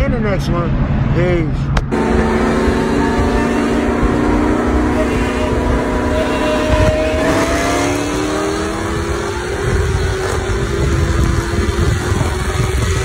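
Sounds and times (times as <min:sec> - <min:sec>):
wind and road noise: 0:00.0 - 0:13.0
car engine accelerating: 0:01.9 - 0:13.0.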